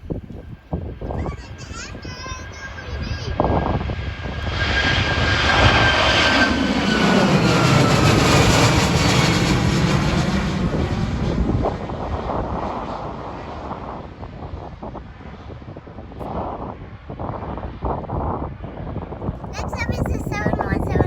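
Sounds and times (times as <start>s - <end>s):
jet plane taking off: 0.2s - 21.0s.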